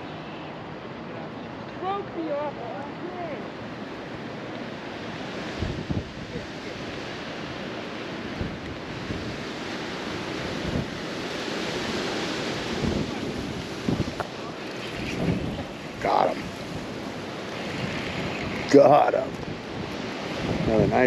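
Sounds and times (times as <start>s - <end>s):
strong wind on microphone: 1.8s - 21.0s.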